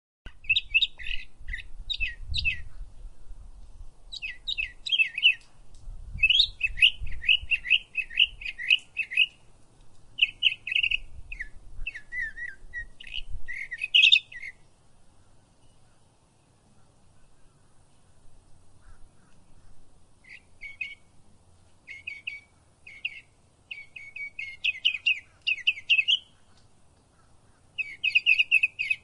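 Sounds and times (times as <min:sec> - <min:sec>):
bird chirping: 0:00.3 - 0:03.3, 0:04.1 - 0:05.5, 0:06.1 - 0:09.5, 0:10.1 - 0:21.2, 0:21.8 - 0:29.0.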